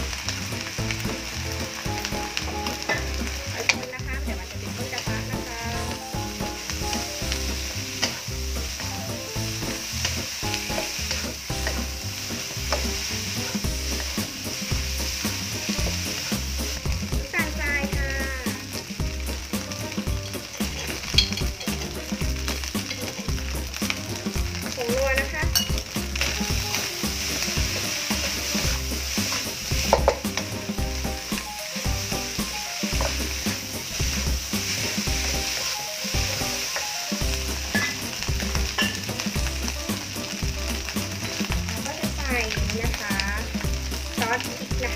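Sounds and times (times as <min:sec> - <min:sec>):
rice sizzling in oil: 0:00.0 - 0:44.9
spatula scraping a wok: 0:00.0 - 0:44.9
spatula knocking on wok: 0:00.9 - 0:18.0, 0:18.9 - 0:41.8.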